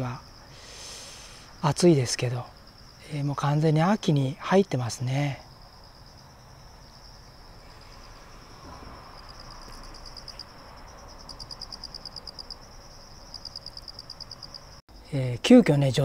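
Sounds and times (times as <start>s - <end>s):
insects trilling: 0.0s - 16.0s
rapidly pulsing insect chirps: 0.0s - 16.0s.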